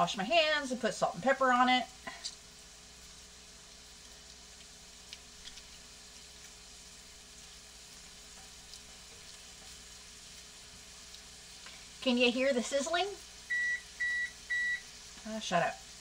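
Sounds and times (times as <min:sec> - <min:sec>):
burger patty sizzling in a pan: 0:00.0 - 0:16.0.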